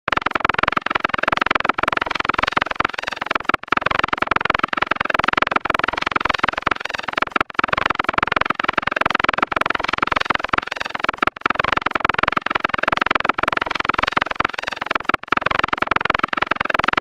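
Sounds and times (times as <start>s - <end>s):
rapid pulsing texture: 0.1s - 17.0s.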